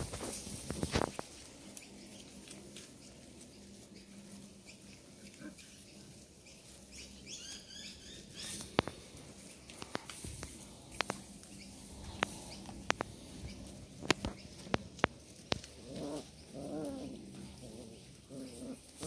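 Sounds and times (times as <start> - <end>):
puppies scuffling on grass: 0.0 - 19.0.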